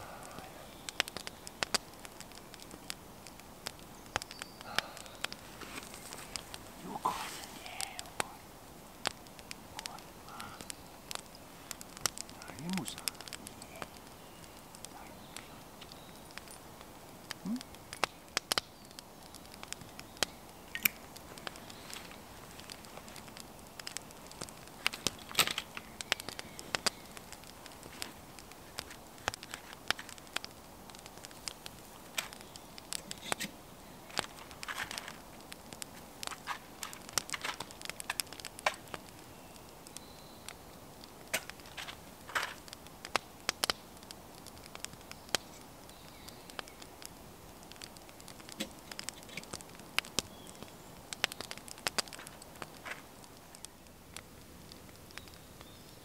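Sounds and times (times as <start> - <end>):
light crackling and clicking: 0.0 - 56.0.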